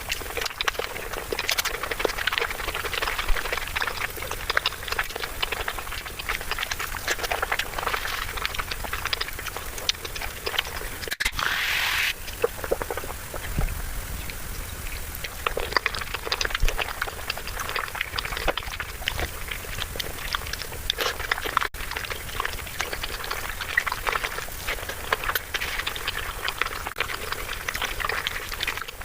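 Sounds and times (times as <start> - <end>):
sped-up chewing and smacking: 0.0 - 29.0.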